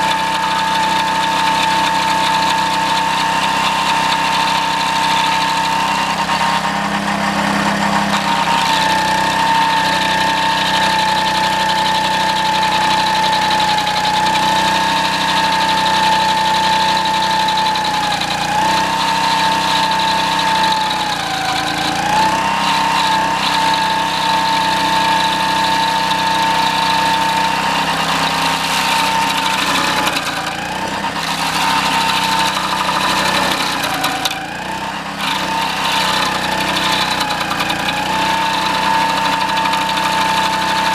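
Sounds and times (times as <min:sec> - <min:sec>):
stump grinder engine running: 0:00.0 - 0:40.9.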